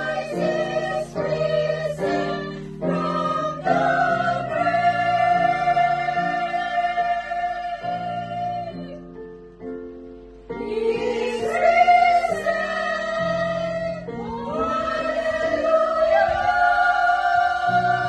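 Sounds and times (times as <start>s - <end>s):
women's choir singing: 0.0s - 9.2s, 10.5s - 18.0s.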